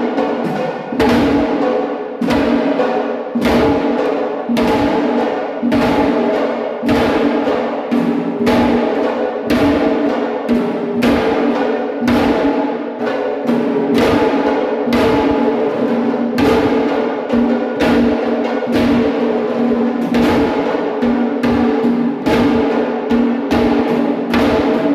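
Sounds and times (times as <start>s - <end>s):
heavy drum strikes: 0.0s - 24.9s.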